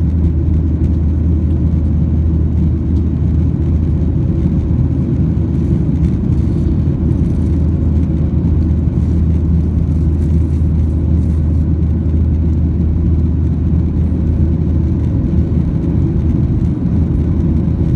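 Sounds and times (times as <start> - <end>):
jet engine cabin roar: 0.0 - 17.9.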